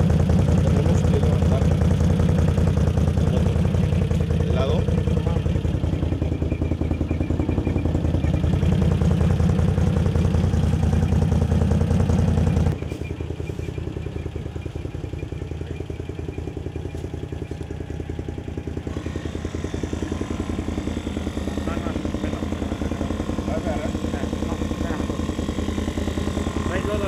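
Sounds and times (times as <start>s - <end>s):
air compressor pumping: 0.0s - 13.8s, 18.6s - 27.0s.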